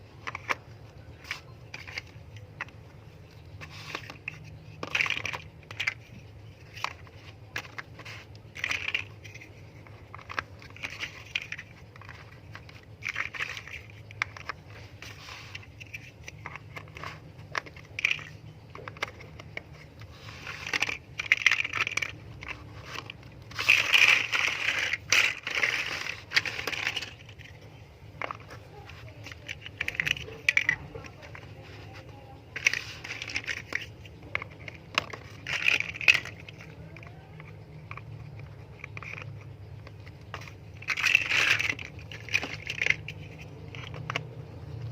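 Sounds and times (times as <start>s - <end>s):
loose plastic bricks rattling: 0.0s - 44.9s
plastic bricks clicking together: 0.0s - 44.9s.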